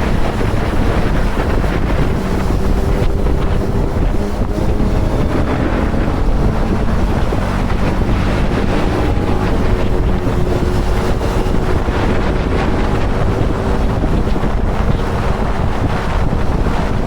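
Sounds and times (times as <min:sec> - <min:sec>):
motorcycle engine running: 0:00.0 - 0:17.0
wind noise on microphone: 0:00.0 - 0:17.0.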